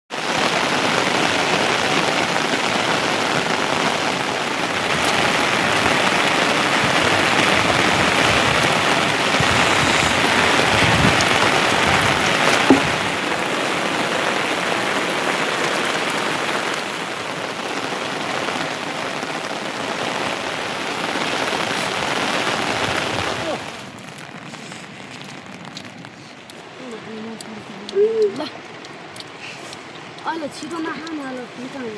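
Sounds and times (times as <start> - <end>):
heavy rain falling: 0.1 - 31.9.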